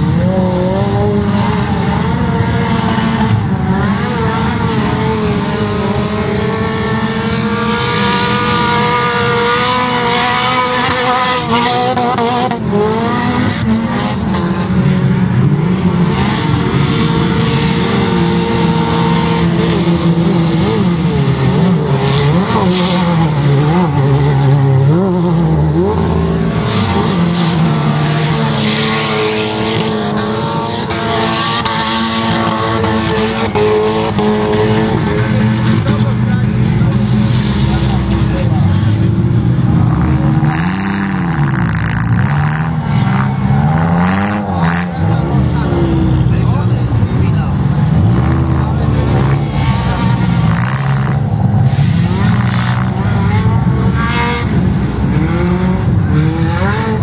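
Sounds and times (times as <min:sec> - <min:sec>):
racing car engines running hard: 0:00.0 - 0:57.0.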